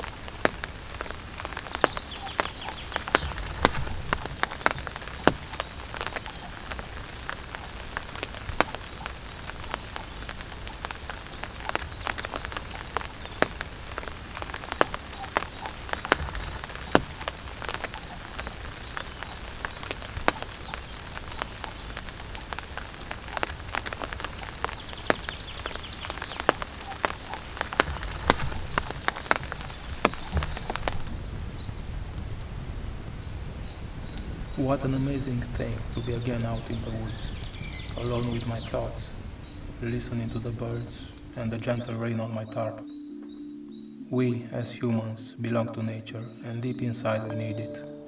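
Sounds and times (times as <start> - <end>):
heavy raindrops tapping: 0.0 - 42.1
rain pattering on a tarp: 0.0 - 43.5.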